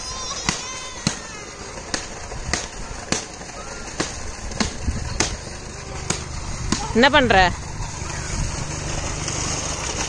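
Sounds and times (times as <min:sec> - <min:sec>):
steady low rumble: 0:01.5 - 0:09.9.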